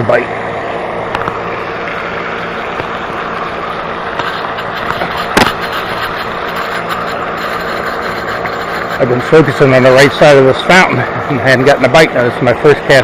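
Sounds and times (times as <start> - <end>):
fountain water rushing: 0.8 - 13.0.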